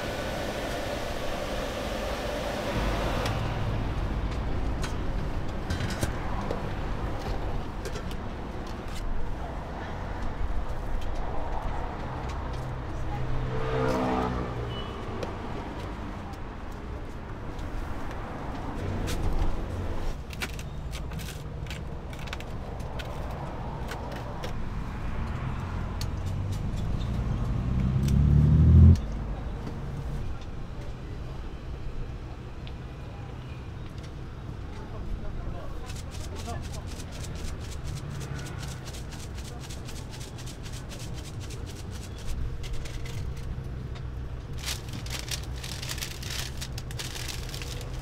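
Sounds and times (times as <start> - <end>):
passing vehicle engines: 0.0 - 20.8, 21.5 - 33.5, 34.2 - 48.0.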